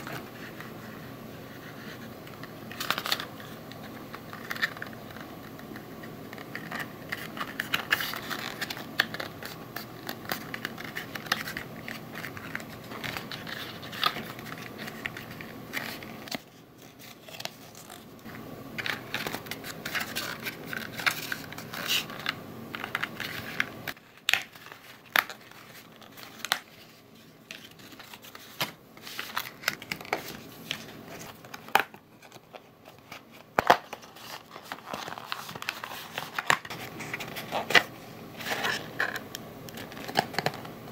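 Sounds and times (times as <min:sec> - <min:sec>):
cardboard crinkling and rubbing: 0:00.0 - 0:39.2.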